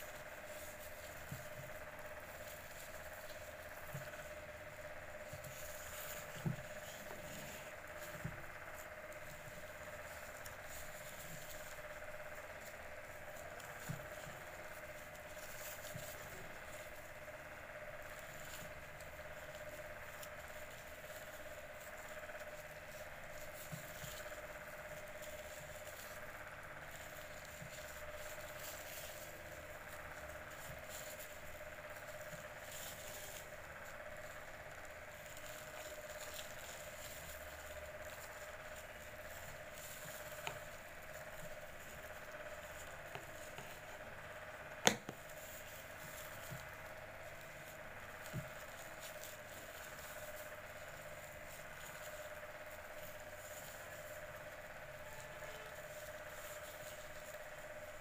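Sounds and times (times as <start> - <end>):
background hum: 0.0 - 58.0
plastic rustling and crinkling: 0.0 - 58.0.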